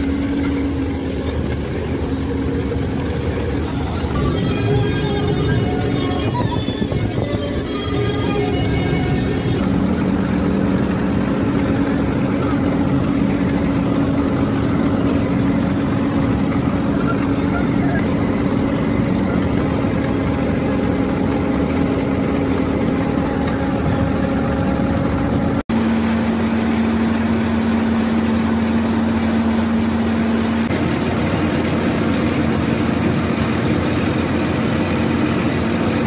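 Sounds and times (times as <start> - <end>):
threshing machine humming: 0.0 - 36.0.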